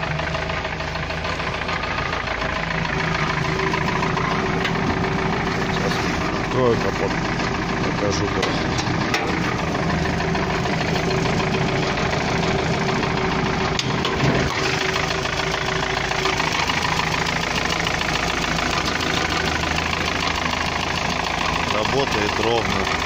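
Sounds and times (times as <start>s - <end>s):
petrol engine idling with knock: 0.0s - 23.0s.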